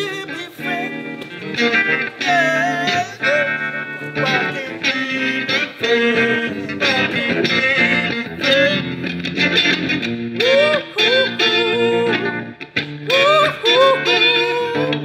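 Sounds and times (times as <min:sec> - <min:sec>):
electric guitar with pitch bends: 0:00.0 - 0:15.0.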